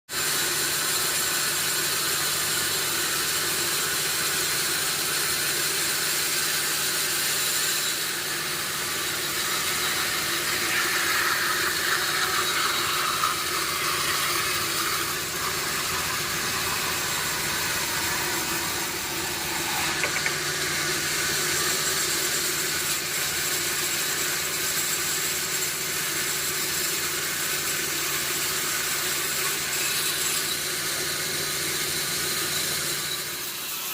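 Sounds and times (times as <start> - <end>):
sawmill machinery humming: 0.1 - 33.9.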